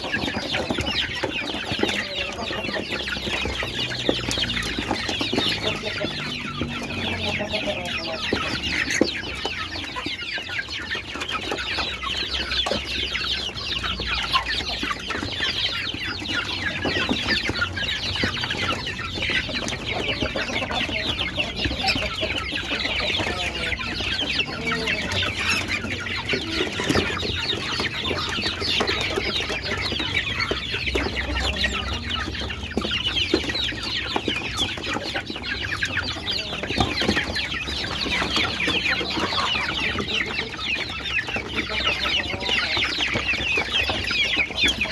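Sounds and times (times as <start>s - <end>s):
chicks cheeping and clucking: 0.0s - 44.9s.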